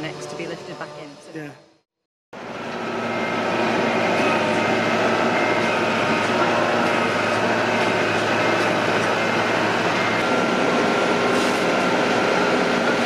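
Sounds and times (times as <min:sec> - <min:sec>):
engine droning: 0:00.0 - 0:01.8, 0:02.4 - 0:13.0.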